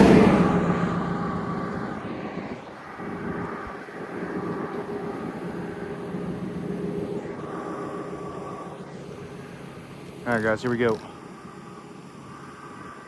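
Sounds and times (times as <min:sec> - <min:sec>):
road vehicle passing: 0:00.0 - 0:10.9
distant traffic hum: 0:00.0 - 0:13.0.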